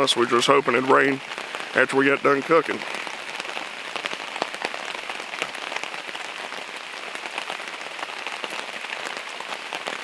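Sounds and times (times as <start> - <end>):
rain falling: 0.0 - 10.0
raindrop hits: 0.0 - 10.0.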